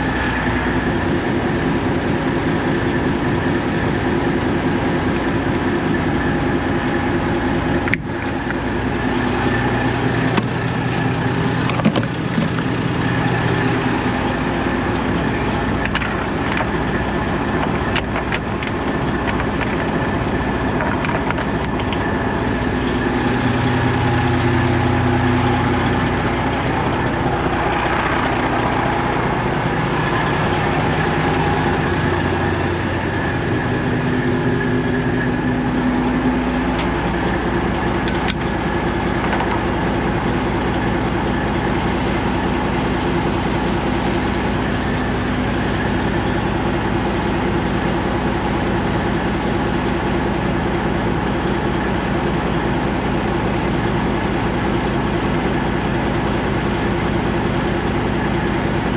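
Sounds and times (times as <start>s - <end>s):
diesel truck engine running: 0.0s - 58.9s.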